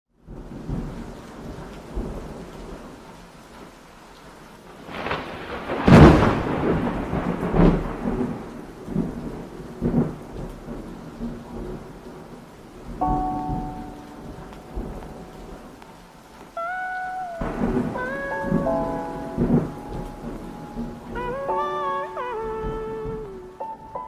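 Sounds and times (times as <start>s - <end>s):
rain falling: 0.1s - 24.0s
thunder rumbling: 0.2s - 24.0s.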